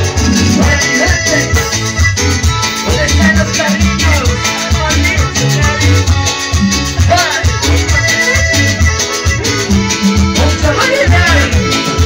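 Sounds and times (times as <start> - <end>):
latin dance music over loudspeakers: 0.0 - 12.0.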